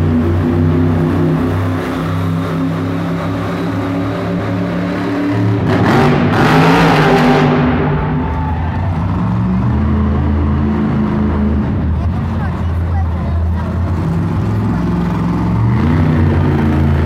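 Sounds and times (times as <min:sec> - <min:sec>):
loud rush of noise: 0:00.0 - 0:17.0
monster truck engines droning: 0:00.0 - 0:17.0.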